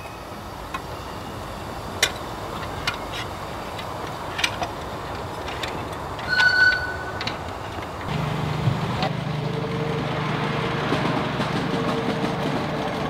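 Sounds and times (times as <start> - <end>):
miniature train rushing: 0.0 - 13.0.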